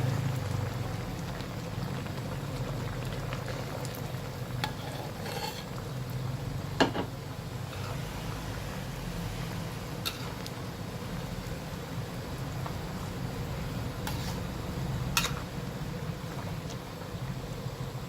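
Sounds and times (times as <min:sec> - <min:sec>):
curry bubbling in a pot: 0:00.0 - 0:18.0.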